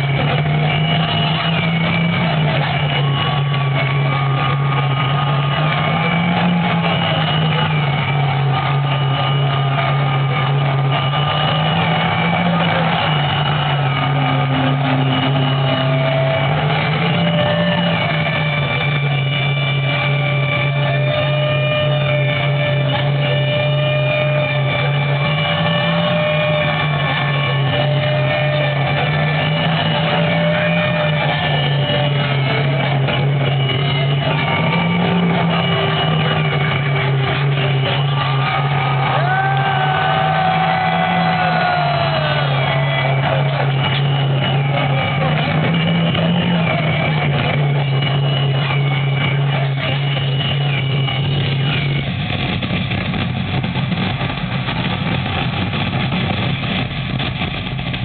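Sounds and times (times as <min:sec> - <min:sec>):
droning electronic music over pa: 0:00.0 - 0:58.0.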